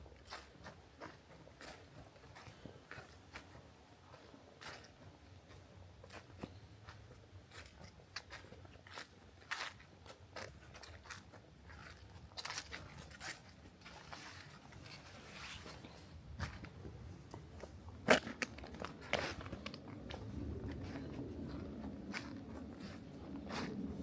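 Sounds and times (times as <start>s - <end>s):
footsteps crunching on dry trail: 0.0s - 24.0s.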